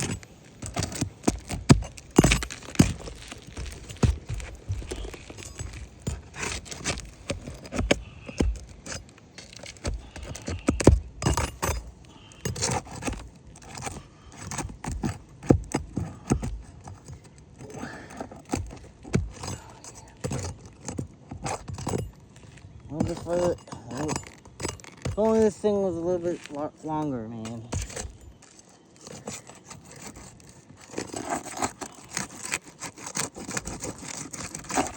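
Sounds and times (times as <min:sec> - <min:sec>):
metal tool clicking and scraping shingles: 0:00.0 - 0:34.9.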